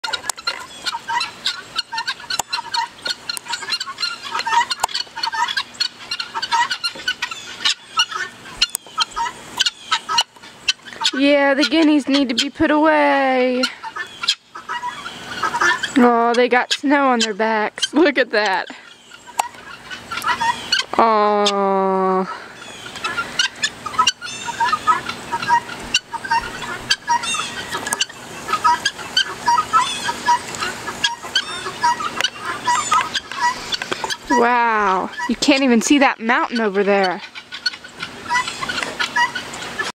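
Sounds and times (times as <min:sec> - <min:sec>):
guineafowl calling: 0:00.0 - 0:39.9.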